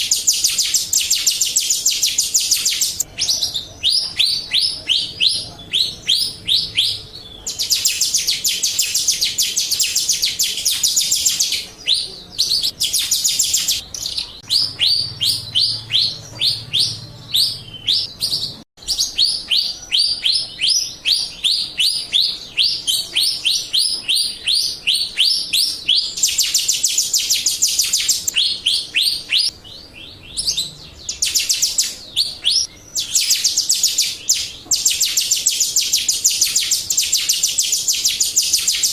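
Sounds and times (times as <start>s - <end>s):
high rattling bird trills: 0.0s - 38.9s
starling chirping: 0.0s - 38.9s.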